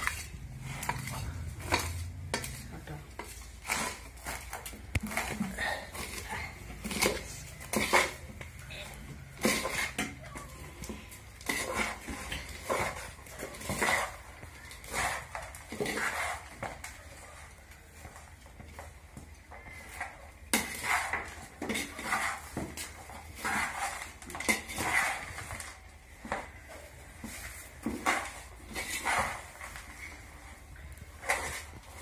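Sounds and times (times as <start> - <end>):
metal utensils scraping a pot: 0.0 - 18.2, 19.6 - 32.0.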